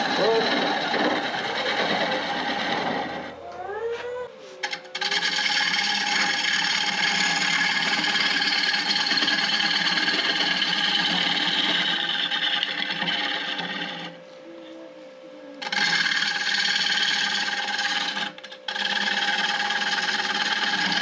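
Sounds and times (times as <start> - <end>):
gouge scraping wood on lathe: 0.0 - 3.4, 4.6 - 14.2, 15.6 - 21.0
lathe motor hum: 0.0 - 3.5, 4.6 - 14.4, 15.6 - 21.0.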